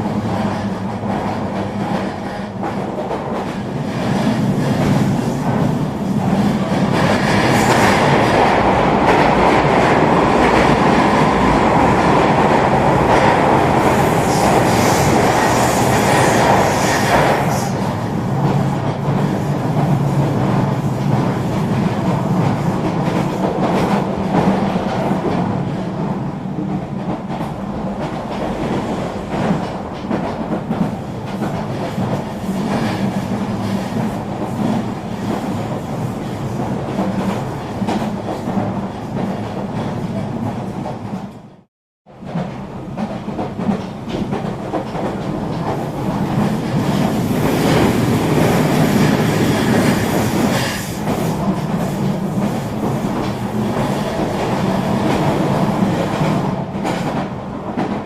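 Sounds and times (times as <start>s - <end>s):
train rolling on track: 0.0s - 58.0s.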